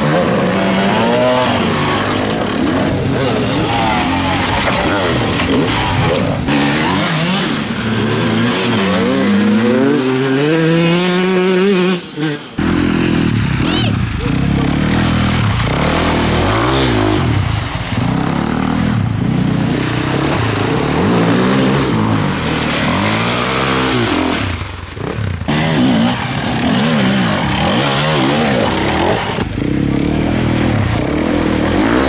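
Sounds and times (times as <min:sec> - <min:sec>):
motorcycle engines revving hard: 0:00.0 - 0:32.0.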